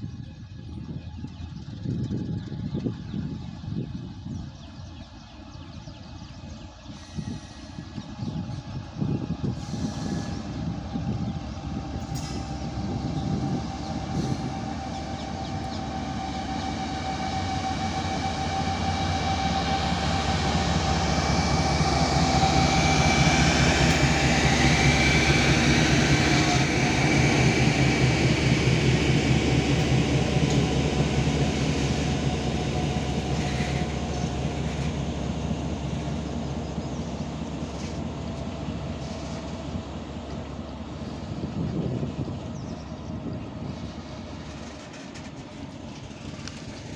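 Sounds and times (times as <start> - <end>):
locomotive engine rumble and whine: 0.0 - 46.9
train wagons rolling by: 5.2 - 46.9.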